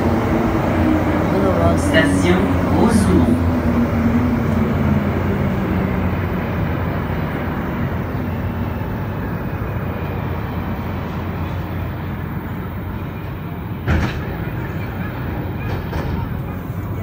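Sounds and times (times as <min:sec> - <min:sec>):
metro train running and slowing: 0:00.0 - 0:17.0.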